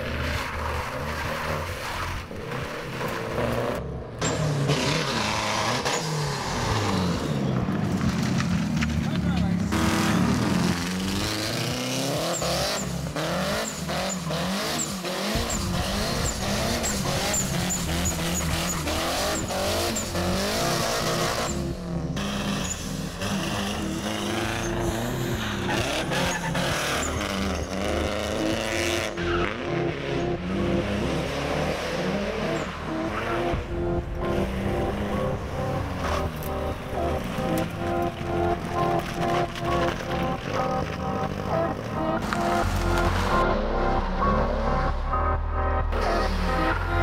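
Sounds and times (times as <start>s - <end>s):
tyres squealing on asphalt: 0.0s - 44.8s
car engine revving: 0.0s - 47.0s.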